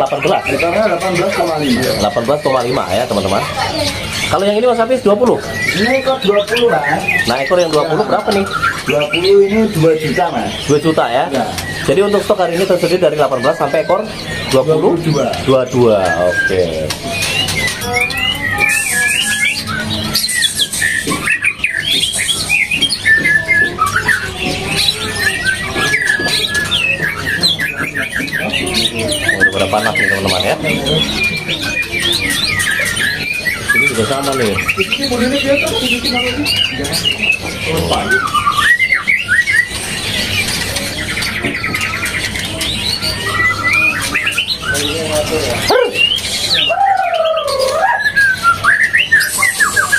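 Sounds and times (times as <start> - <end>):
songbirds whistling and trilling: 0.0 - 49.9.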